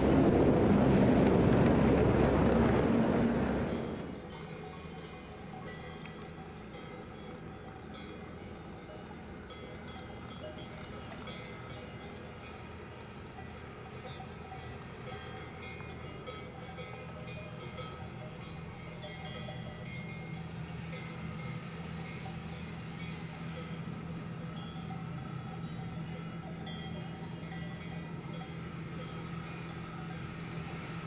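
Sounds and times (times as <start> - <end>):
electric train humming: 0.0 - 31.0
cowbells clanking: 3.7 - 31.0.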